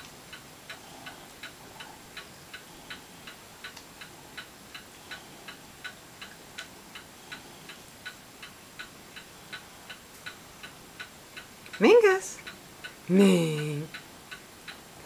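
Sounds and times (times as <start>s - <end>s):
faint room hiss: 0.0s - 15.0s
steady clock ticking: 0.0s - 15.0s.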